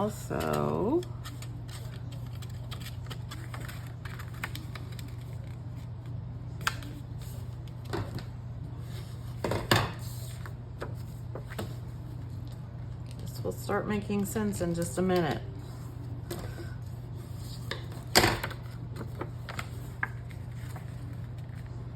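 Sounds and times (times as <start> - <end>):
paper being handled and folded: 0.0 - 13.4, 14.0 - 21.9
steady low hum: 0.0 - 21.9.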